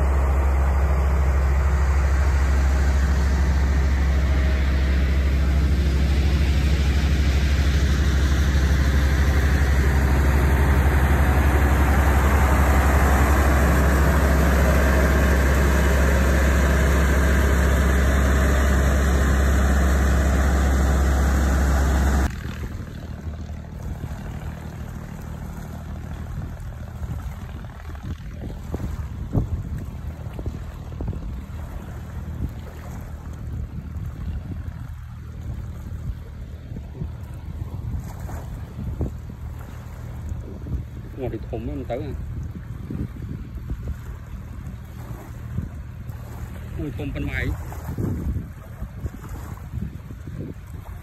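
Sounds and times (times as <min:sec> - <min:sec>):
engine droning: 0:00.0 - 0:51.0
water: 0:00.0 - 0:51.0
wind: 0:00.0 - 0:51.0.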